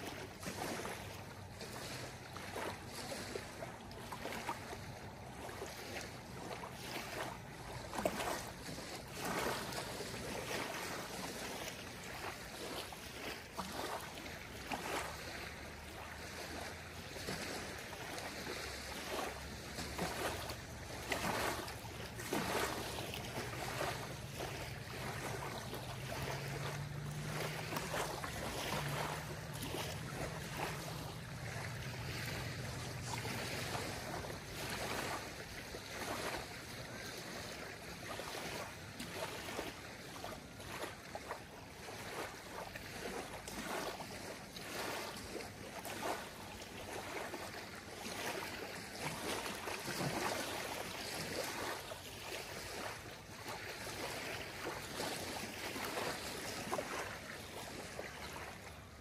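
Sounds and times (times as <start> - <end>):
light wind: 0.0 - 59.0
waves lapping on gravel shore: 0.0 - 59.0.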